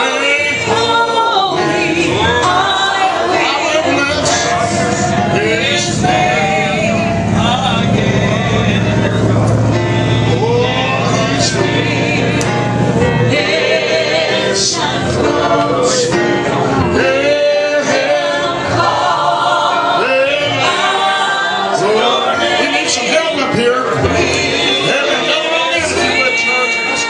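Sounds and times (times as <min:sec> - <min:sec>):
gospel choir with instruments: 0:00.0 - 0:27.0.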